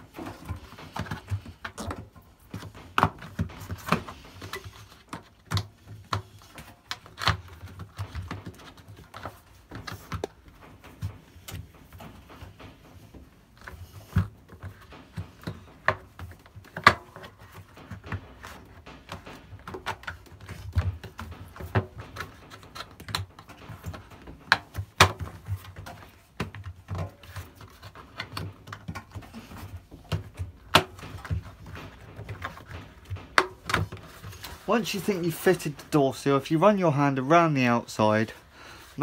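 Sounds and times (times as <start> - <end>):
taps knocks and rubbing on rubber: 0.0 - 36.8.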